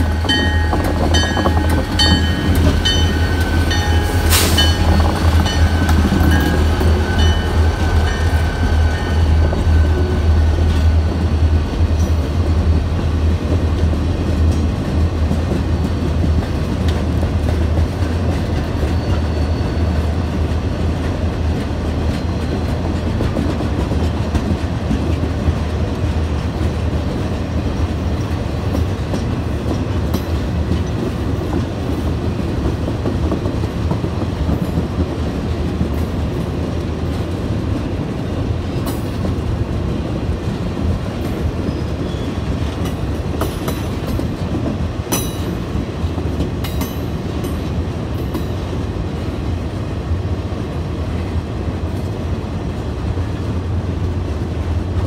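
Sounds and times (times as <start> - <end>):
wheels clacking over rail joints: 0.0 - 12.8, 13.4 - 49.6
train rumbling past: 0.0 - 55.0.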